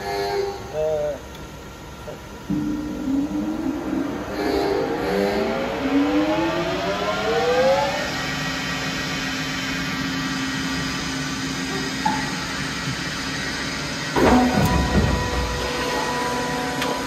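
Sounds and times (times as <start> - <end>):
surface grinder machine whine: 2.3 - 17.0.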